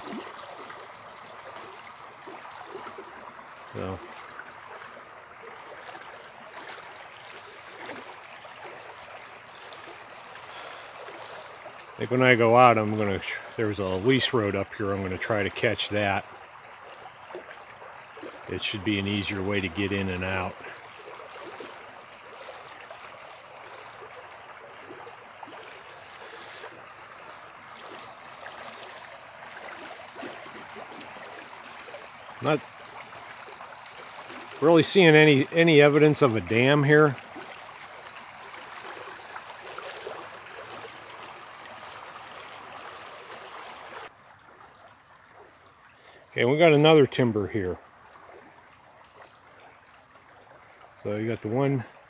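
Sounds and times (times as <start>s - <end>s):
forest creek running: 0.0s - 52.0s.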